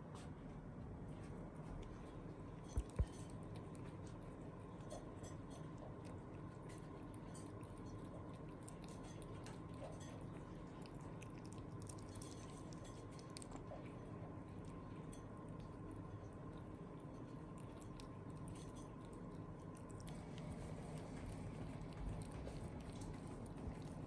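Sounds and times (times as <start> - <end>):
steady low hum: 0.0 - 24.0
pet chewing food: 1.1 - 24.0.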